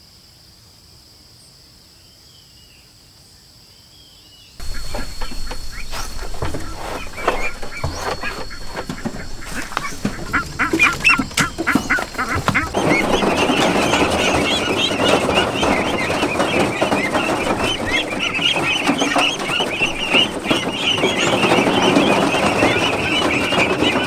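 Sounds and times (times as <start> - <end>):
ducks or geese calling: 4.6 - 24.0.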